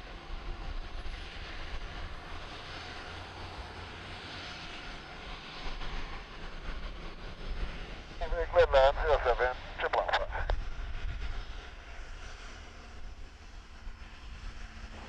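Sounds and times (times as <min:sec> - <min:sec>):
aircraft engine noise: 0:00.0 - 0:15.0.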